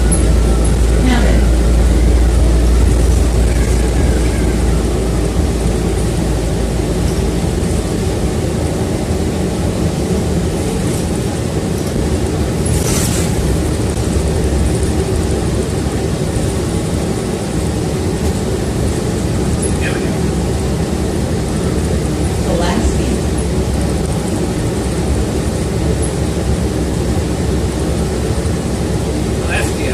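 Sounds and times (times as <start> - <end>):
bus engine and road rumble: 0.0 - 29.9.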